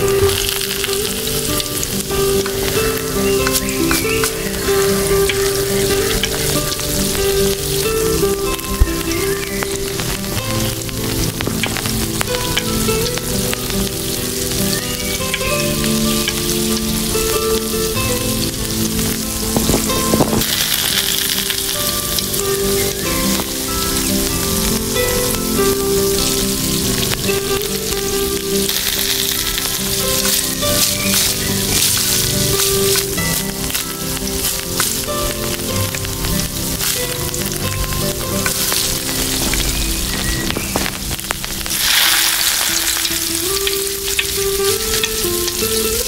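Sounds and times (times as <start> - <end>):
background music: 0.0 - 46.0
food sizzling in a pan: 0.0 - 46.0.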